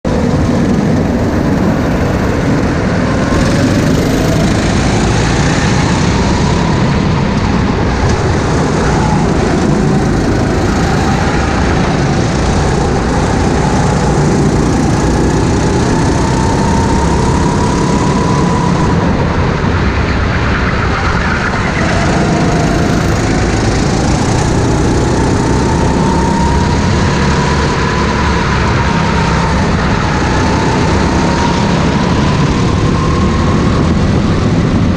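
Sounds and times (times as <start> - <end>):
constant rushing noise: 0.0 - 34.9
go-kart engine running: 0.0 - 34.9.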